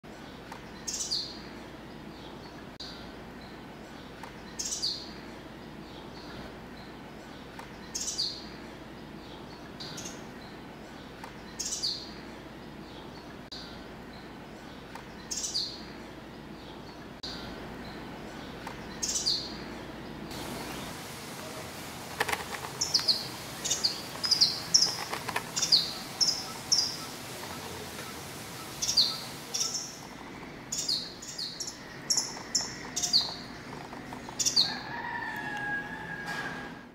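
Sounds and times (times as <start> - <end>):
steady background noise: 0.0 - 36.9
bird chirping: 0.1 - 21.0, 22.1 - 34.9.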